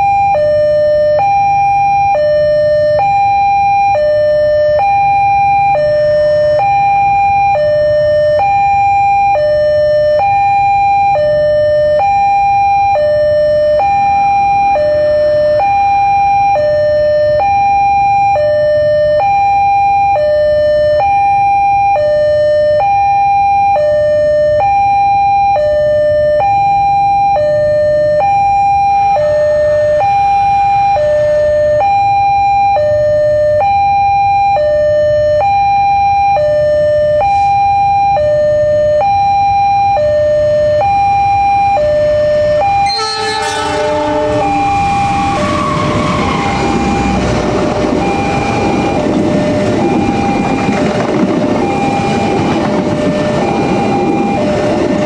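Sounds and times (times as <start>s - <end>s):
two-tone crossing alarm: 0.0s - 55.0s.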